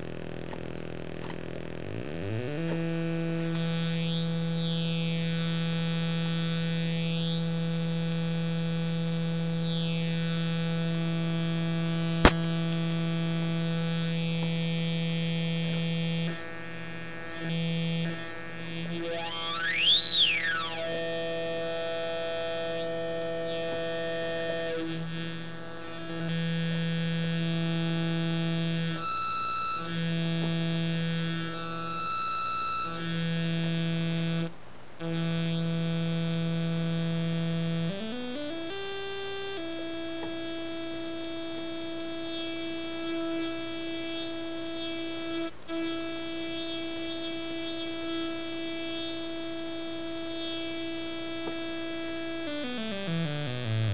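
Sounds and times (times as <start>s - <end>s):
buzzy electronic synthesizer drone: 0.0s - 53.9s.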